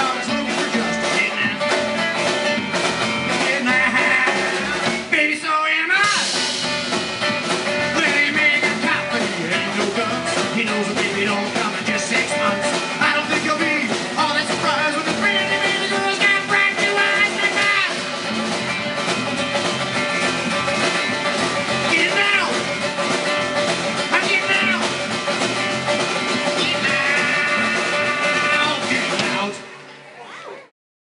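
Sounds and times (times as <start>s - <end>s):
upright bass: 0.0s - 29.7s
acoustic guitar: 0.0s - 30.1s.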